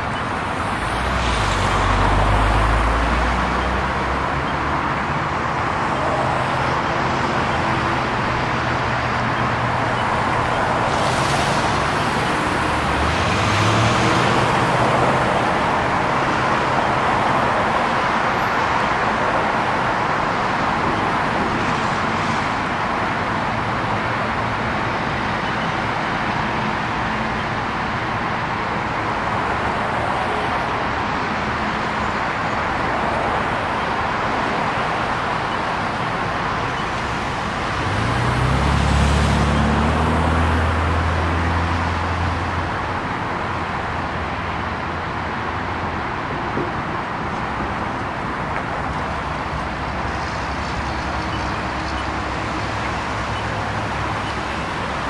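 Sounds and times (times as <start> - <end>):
cars driving past: 0.0 - 55.0.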